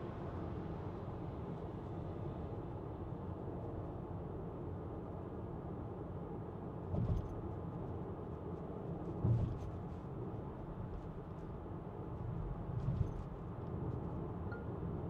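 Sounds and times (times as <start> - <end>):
road and tyre noise in car: 0.0 - 15.0.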